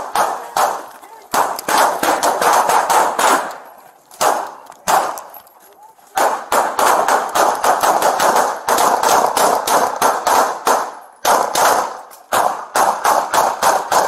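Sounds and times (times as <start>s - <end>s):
rapid handgun fire: 0.0s - 3.6s, 4.2s - 5.3s, 6.2s - 14.0s.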